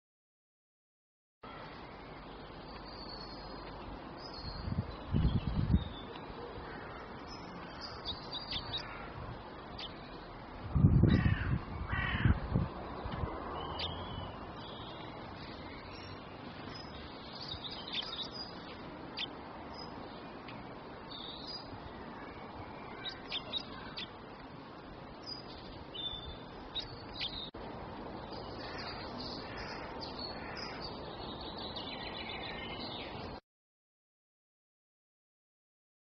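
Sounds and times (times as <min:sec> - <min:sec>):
small songbirds chirping: 0:01.4 - 0:33.4
steady background noise: 0:01.5 - 0:33.4.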